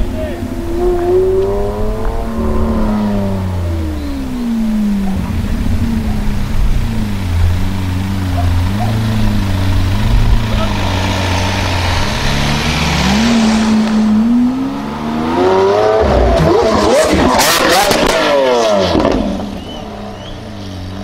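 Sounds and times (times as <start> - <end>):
exhaust crackles: 0.0 - 21.0
sports car engine revving: 0.0 - 21.0.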